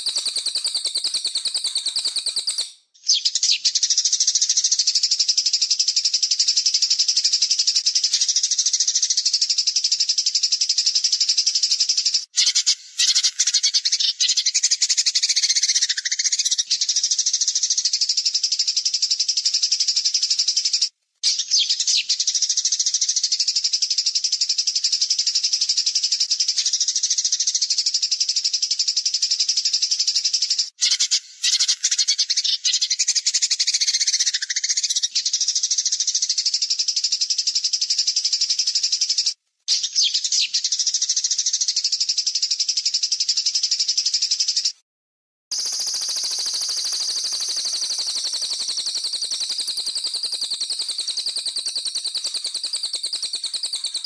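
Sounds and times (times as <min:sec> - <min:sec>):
high-pitched songbird trilling: 0:00.0 - 0:18.5, 0:19.3 - 0:25.0, 0:25.6 - 0:38.3, 0:38.9 - 0:44.7, 0:45.5 - 0:54.0.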